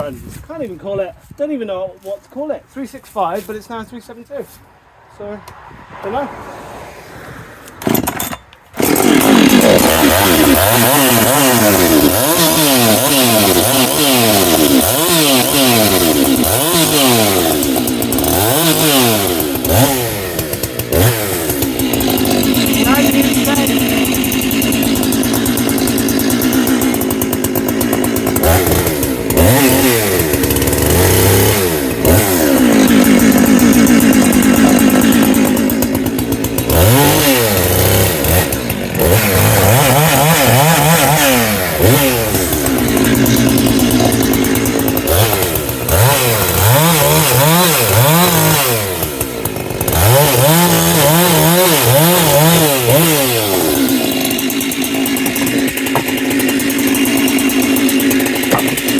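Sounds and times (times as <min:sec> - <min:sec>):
chainsaw running at high revs: 0:07.8 - 0:58.9.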